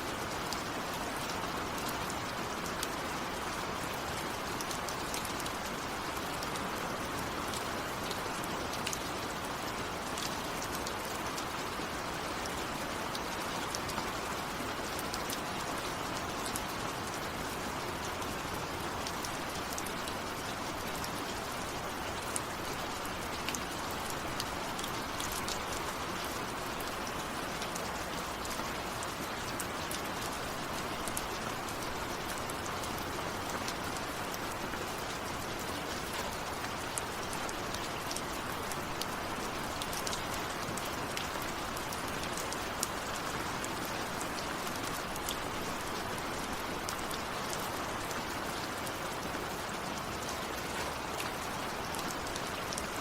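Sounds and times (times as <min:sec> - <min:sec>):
raindrops hitting a surface: 0:00.0 - 0:53.0
steady rain falling: 0:00.0 - 0:53.0.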